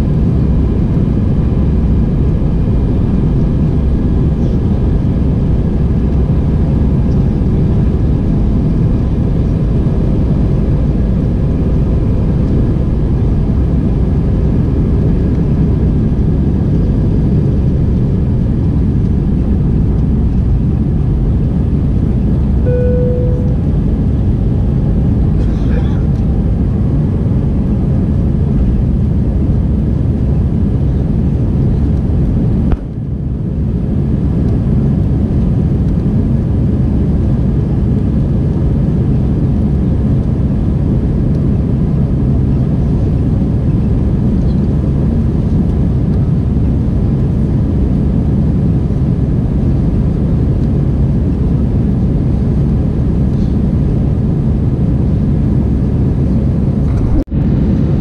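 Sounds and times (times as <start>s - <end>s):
jet engine and airflow rumble: 0.0s - 58.0s.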